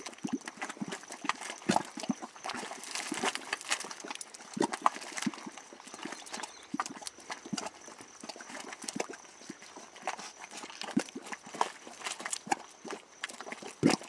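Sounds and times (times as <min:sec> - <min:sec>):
thick mud bubbling and popping: 0:00.0 - 0:14.0.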